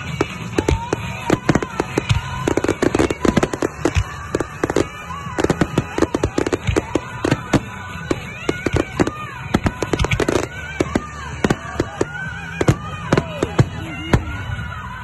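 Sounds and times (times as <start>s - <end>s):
firework shells bursting: 0.0s - 14.3s
music playing: 0.0s - 15.0s.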